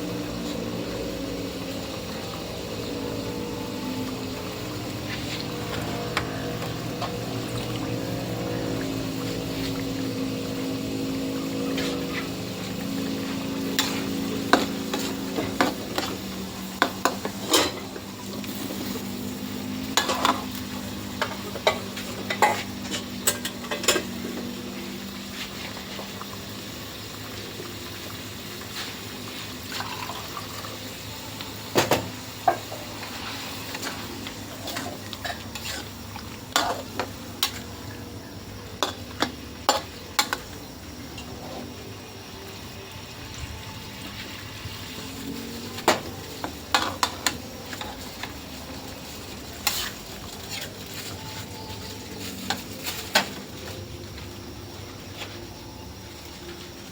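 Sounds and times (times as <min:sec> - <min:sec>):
sizzling simmer: 0:00.0 - 0:56.9.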